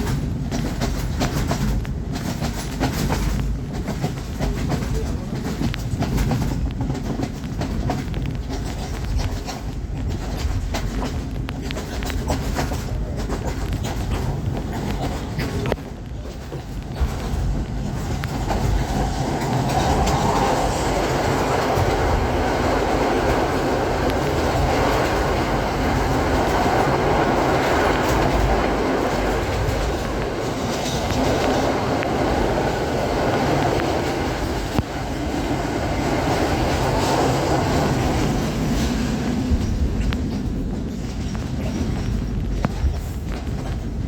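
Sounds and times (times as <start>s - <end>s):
train rumbling along tracks: 0.0s - 44.0s
wheels clicking over rail joints: 0.0s - 44.0s.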